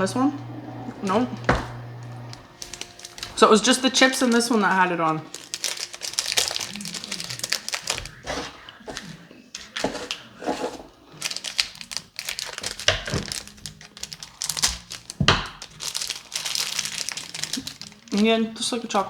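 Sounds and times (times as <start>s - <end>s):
plastic wrapper crinkling and tearing: 1.0s - 19.0s.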